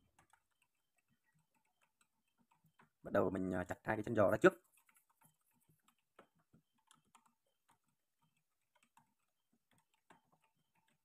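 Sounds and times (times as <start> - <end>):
faint ticks and knocks: 0.0 - 11.0.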